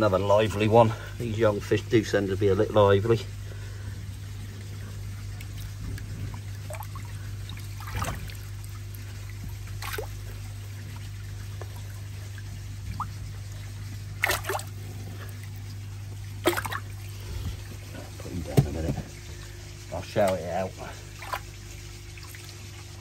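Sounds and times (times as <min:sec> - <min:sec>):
steady low hum: 0:00.0 - 0:23.0
water splashing: 0:04.5 - 0:23.0.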